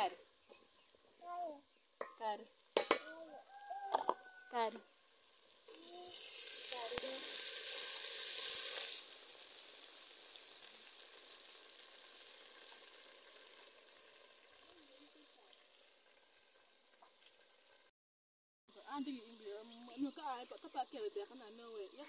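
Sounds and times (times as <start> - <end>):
tomatoes sizzling in hot oil: 0.0 - 17.9, 18.7 - 22.0.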